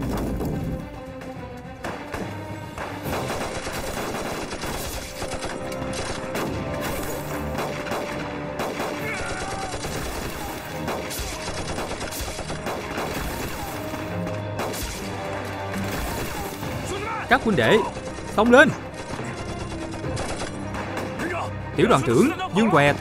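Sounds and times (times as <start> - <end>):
rapid gunfire: 1.8 - 16.7, 17.7 - 21.2.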